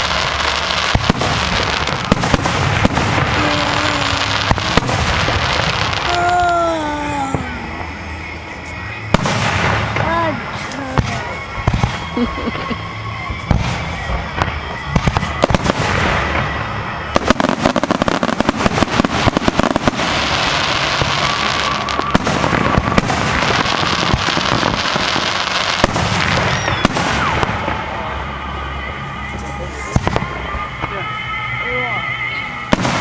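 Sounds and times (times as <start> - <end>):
fireworks bangs and pops: 0.0 - 31.5, 32.1 - 33.0
firework whistling glide: 0.0 - 33.0
fireworks crackling hiss: 0.0 - 33.0.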